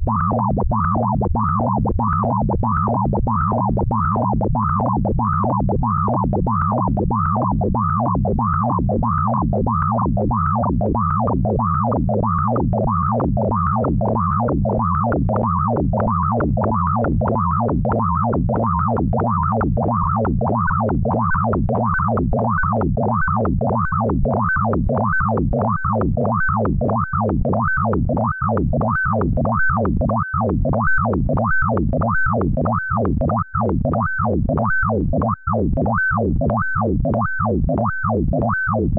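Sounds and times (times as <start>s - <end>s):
low electronic drone: 0.0s - 38.9s.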